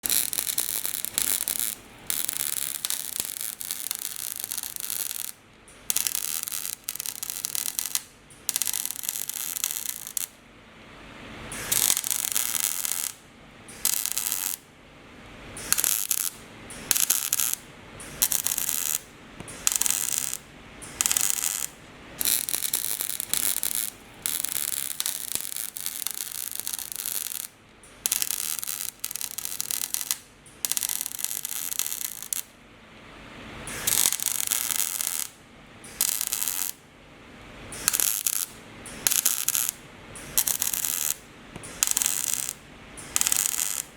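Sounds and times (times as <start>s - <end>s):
arc welding crackling and hissing: 0.0s - 10.4s, 11.5s - 14.7s, 15.5s - 32.6s, 33.5s - 36.9s, 37.7s - 43.9s.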